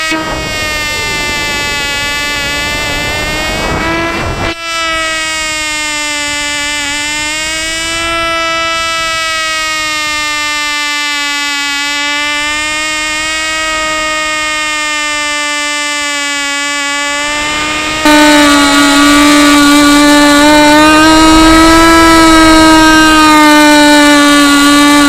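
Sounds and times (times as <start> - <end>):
model airplane engine buzzing: 0.0 - 25.0.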